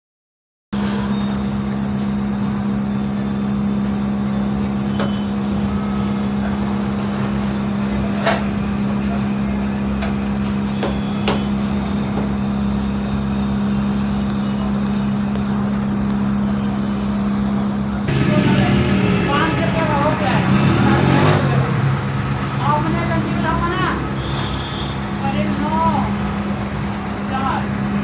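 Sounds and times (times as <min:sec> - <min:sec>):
low machine hum: 0:00.8 - 0:28.0.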